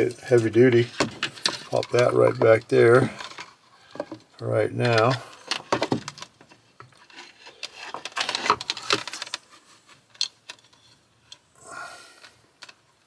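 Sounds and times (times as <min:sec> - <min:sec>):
wire leads rubbing and clicking: 0:00.0 - 0:11.5.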